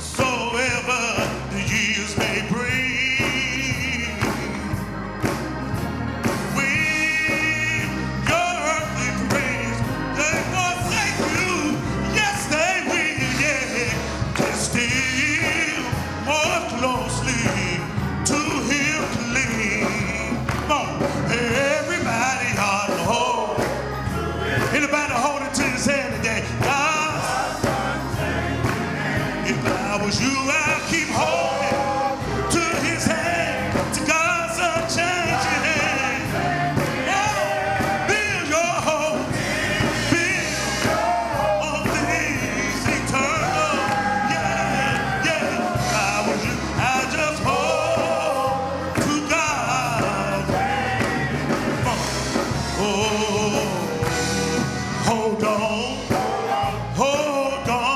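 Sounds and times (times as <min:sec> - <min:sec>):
gospel singing: 0:00.0 - 0:57.9
instrumental accompaniment with bass: 0:00.0 - 0:57.9.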